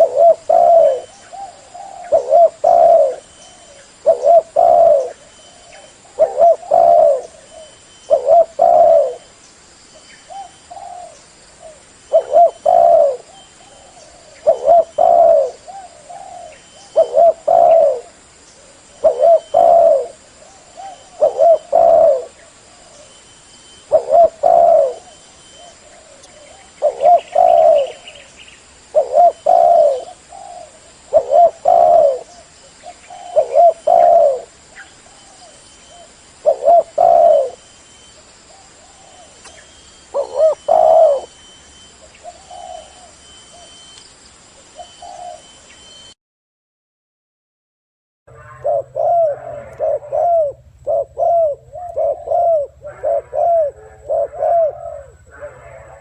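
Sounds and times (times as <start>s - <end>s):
dove cooing: 0.0s - 9.3s, 10.2s - 44.0s, 44.7s - 45.9s, 48.3s - 56.0s.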